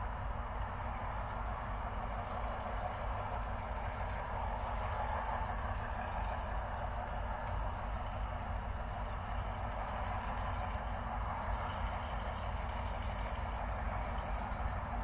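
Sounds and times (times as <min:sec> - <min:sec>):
distant locomotive drone: 0:00.0 - 0:15.0.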